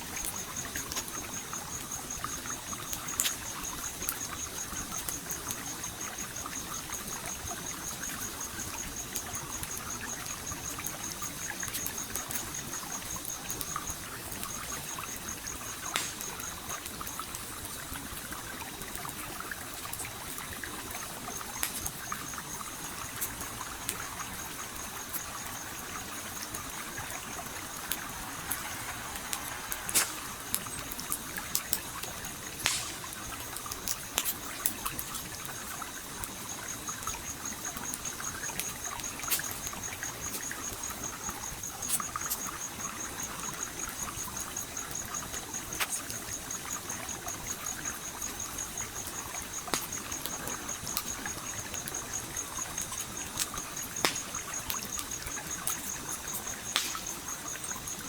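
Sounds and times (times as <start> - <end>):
campfire crackling: 0.0 - 58.0
stream flowing: 7.8 - 58.0.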